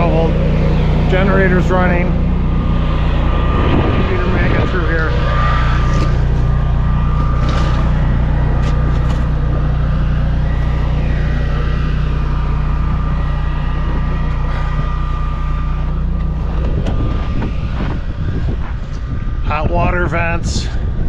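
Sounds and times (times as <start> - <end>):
generator engine humming: 0.0 - 21.0
thin high whine: 0.0 - 21.0.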